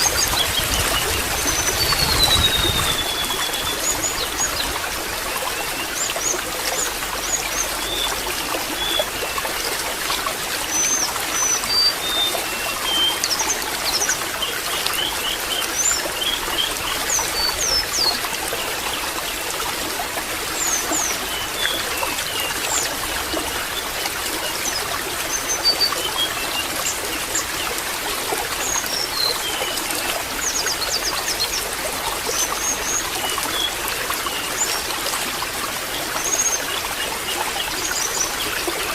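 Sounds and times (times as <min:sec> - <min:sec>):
water trickling and babbling: 0:00.0 - 0:38.9.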